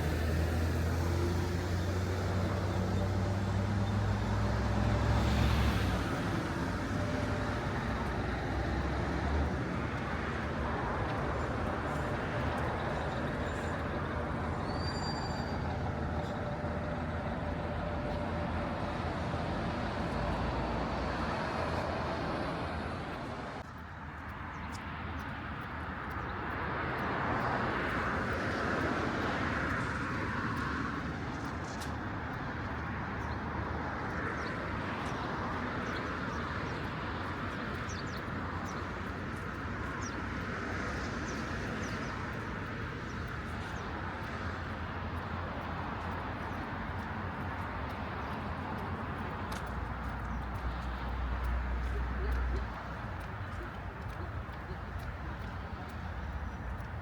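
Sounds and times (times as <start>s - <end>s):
steady traffic noise: 0.0s - 57.0s.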